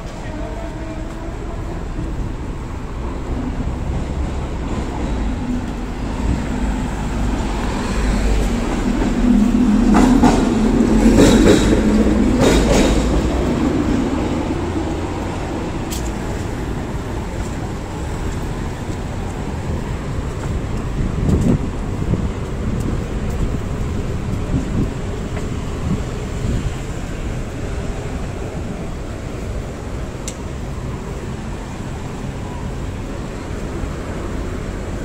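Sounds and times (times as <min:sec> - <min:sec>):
heavy vehicle passing: 0:00.0 - 0:35.0
road traffic rumble: 0:00.0 - 0:35.0.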